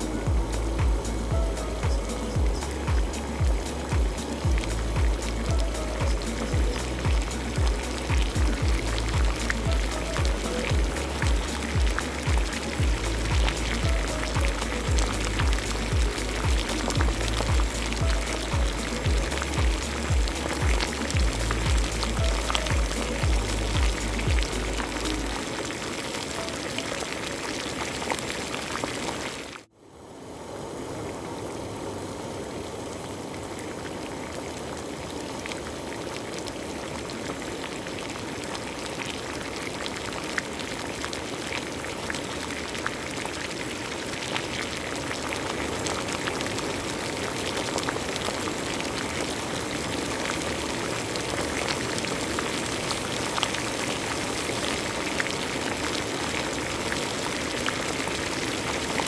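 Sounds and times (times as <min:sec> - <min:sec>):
stew bubbling in a pot: 0:00.0 - 0:29.7, 0:33.3 - 0:59.0.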